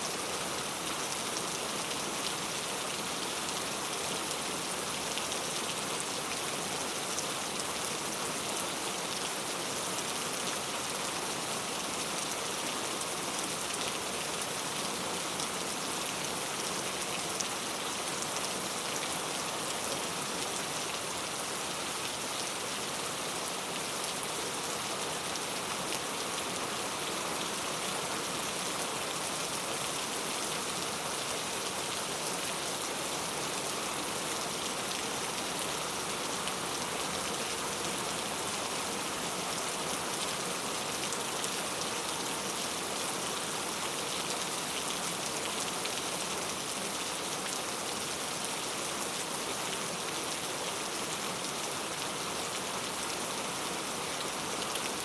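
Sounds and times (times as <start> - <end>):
heavy rain on hard surfaces: 0.0 - 55.0.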